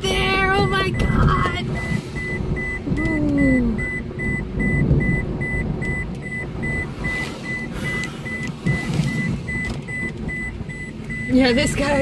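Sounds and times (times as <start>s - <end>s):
car driving on wet road: 0.0s - 12.0s
car warning chime beeping: 0.0s - 12.0s.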